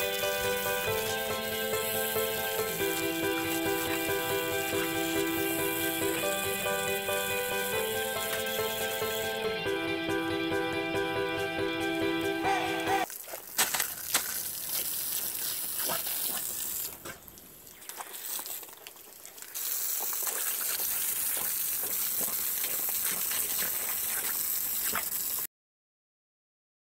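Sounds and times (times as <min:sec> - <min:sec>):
hose water spraying on concrete: 0:00.0 - 0:09.6, 0:13.0 - 0:25.5.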